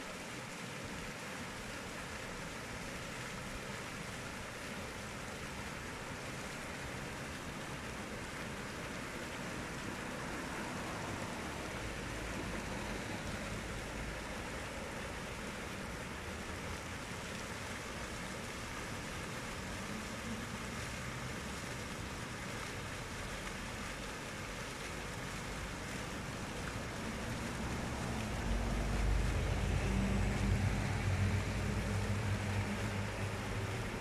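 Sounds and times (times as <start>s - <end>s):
fountain water splashing: 0.0s - 34.0s.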